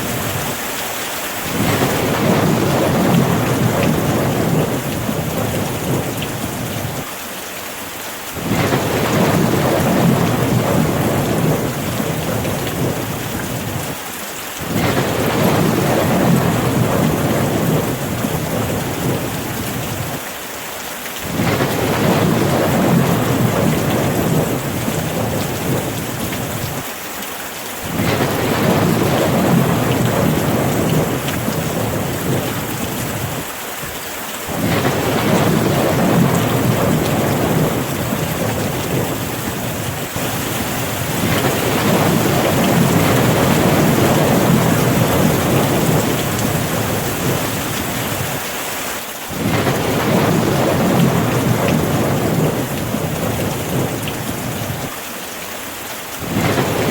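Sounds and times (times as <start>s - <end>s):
heavy rain: 0.0s - 56.9s
rolling thunder: 1.4s - 7.1s, 8.4s - 14.0s, 14.6s - 20.2s, 21.2s - 26.8s, 27.8s - 33.5s, 34.5s - 48.4s, 49.3s - 54.9s, 56.2s - 56.9s.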